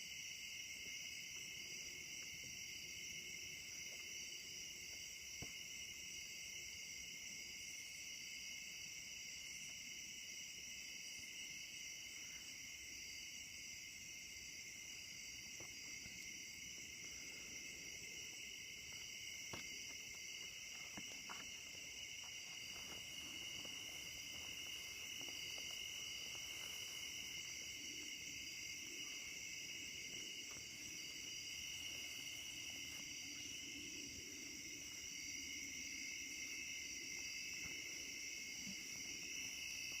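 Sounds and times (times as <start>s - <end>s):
insects trilling: 0.0s - 40.0s.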